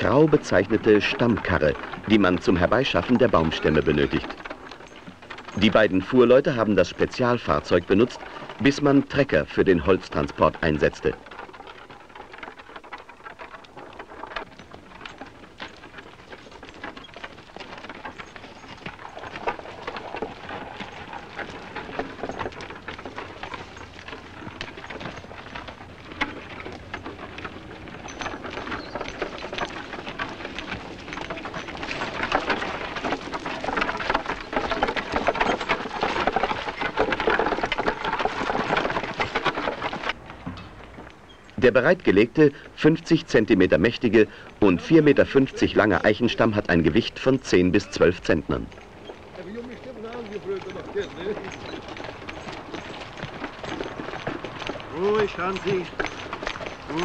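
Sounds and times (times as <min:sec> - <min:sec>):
hooves and wheels crunching on mud: 0:00.0 - 0:57.0.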